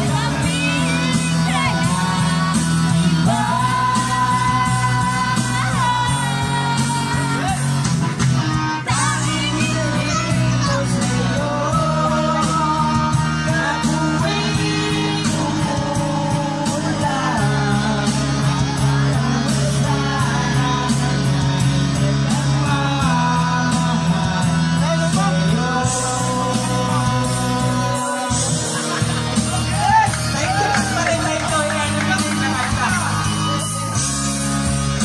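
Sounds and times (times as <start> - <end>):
man singing into a microphone: 0.0 - 34.1
loud backing track: 0.0 - 35.0.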